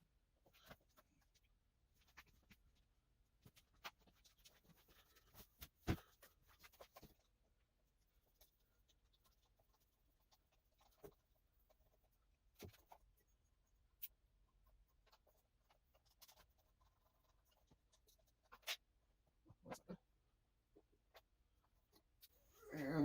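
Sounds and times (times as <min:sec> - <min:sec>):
faint clicks and scrapes: 0:00.3 - 0:22.6.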